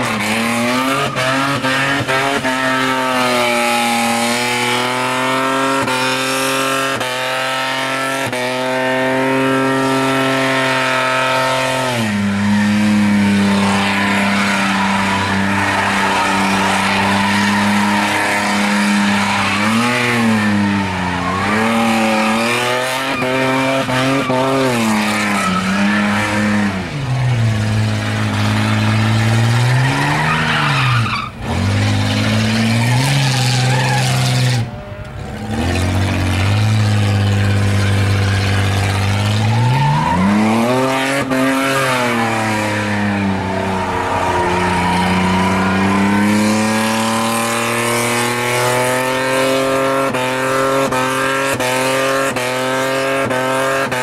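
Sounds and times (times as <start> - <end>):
car engine revving high: 0.0 - 54.0
tyres spinning and squealing: 0.1 - 6.8, 9.4 - 52.0.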